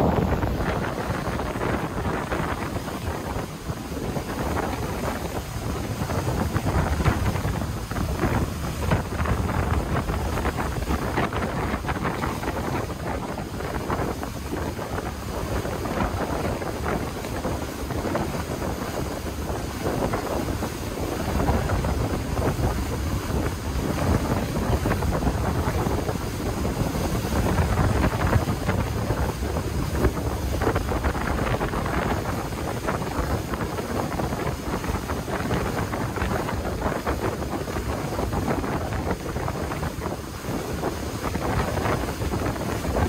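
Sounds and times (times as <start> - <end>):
spray and water rushing off hull: 0.0 - 43.0
wind buffeting microphone: 0.0 - 43.0.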